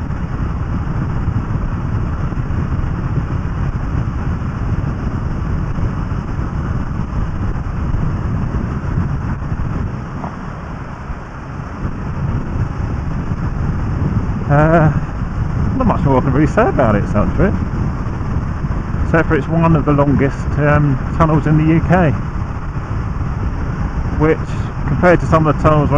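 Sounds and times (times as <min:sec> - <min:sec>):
motorcycle engine cruising: 0:00.0 - 0:25.9
wind noise: 0:00.0 - 0:25.9.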